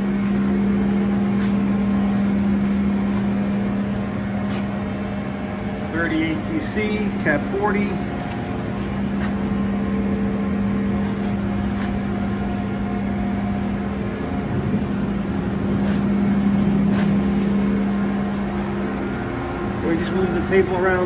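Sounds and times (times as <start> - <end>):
machine spindle humming: 0.0 - 21.0.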